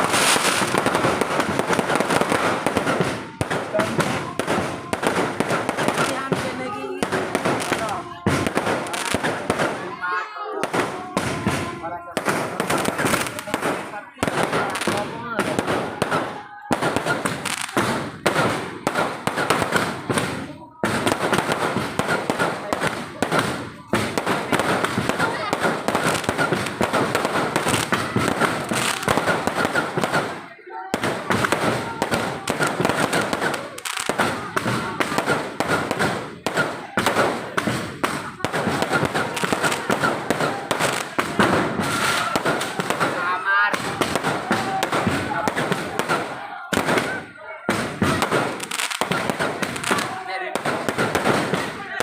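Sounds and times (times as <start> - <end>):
fireworks and firecrackers banging: 0.0 - 52.0.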